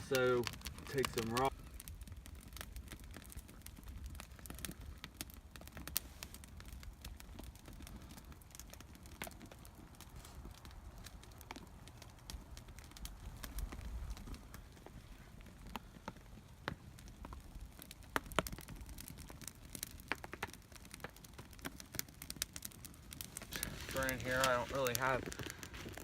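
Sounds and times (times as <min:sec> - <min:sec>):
low rumble of wind: 0:00.0 - 0:26.0
wood fire crackling and popping: 0:00.0 - 0:26.0.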